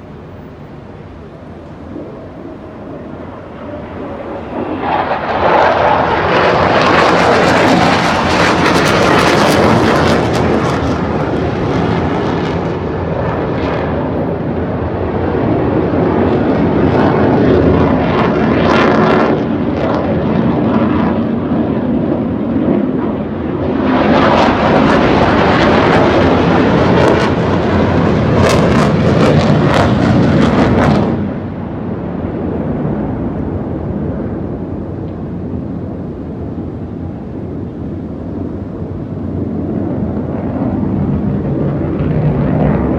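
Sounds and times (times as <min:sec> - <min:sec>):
aircraft engine noise: 0:00.0 - 0:42.9.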